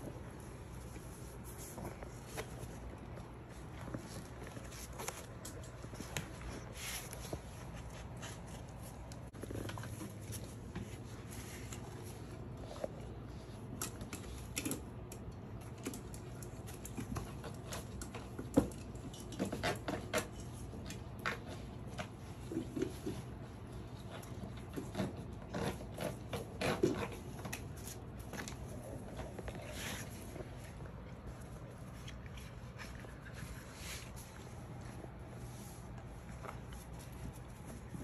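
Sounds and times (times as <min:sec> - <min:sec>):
paws clicking on tile floor: 0:00.0 - 0:38.0.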